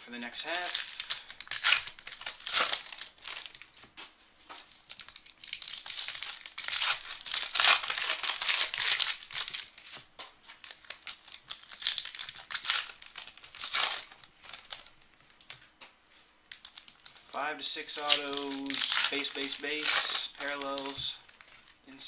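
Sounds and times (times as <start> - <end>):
card pack wrappers tearing and crinkling: 0.3 - 3.8, 4.6 - 15.7, 16.5 - 17.3, 17.9 - 22.0.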